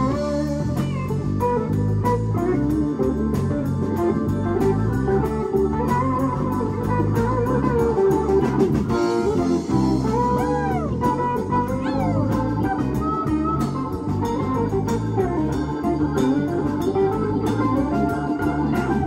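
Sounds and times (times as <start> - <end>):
bass guitar: 0.0 - 19.0
bent guitar notes: 0.0 - 19.0
drum kit beat: 0.0 - 19.0
electric guitar: 0.0 - 19.0
keyboards: 0.0 - 19.0.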